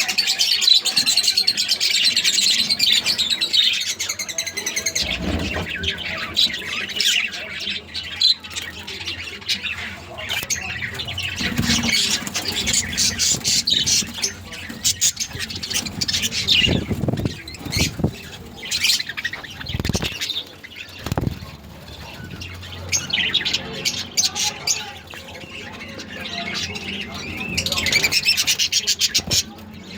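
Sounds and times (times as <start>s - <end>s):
budgerigars chattering and squawking: 0.0s - 29.9s.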